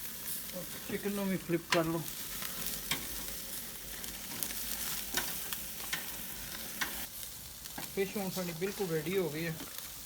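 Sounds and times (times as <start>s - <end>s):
food sizzling on a grill: 0.0s - 10.0s
sharp crackles: 0.0s - 10.0s.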